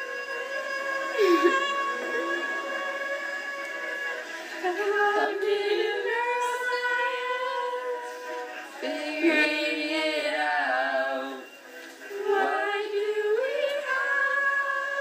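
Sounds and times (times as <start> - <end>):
voices singing sustained notes: 0.0 - 15.0.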